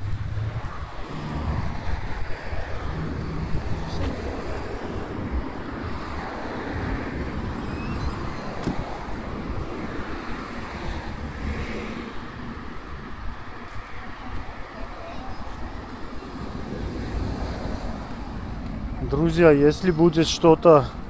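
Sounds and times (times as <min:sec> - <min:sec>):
wind buffeting microphone: 0:00.0 - 0:19.2.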